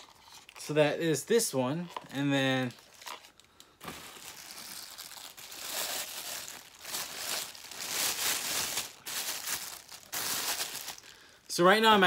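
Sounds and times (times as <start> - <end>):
plastic bag crinkling: 1.8 - 12.0.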